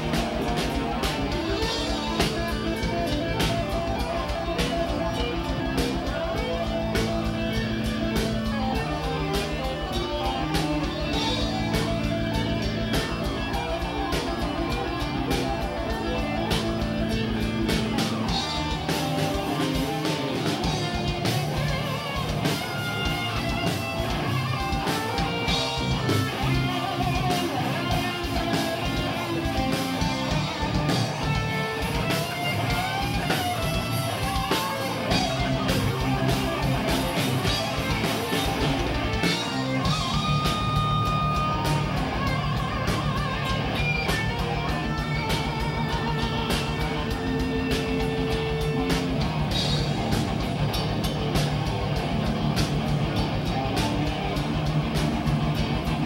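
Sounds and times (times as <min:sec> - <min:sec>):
lead guitar melody: 0:00.0 - 0:56.0
metal band playing live: 0:00.0 - 0:56.0.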